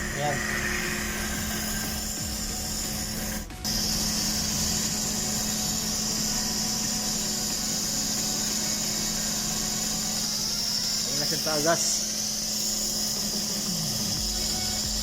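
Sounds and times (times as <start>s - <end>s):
electric water pump humming and hissing: 0.0s - 15.0s.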